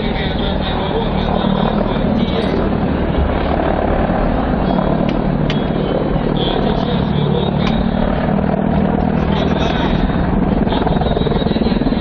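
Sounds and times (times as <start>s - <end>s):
helicopter rotors and engines: 0.0s - 12.0s.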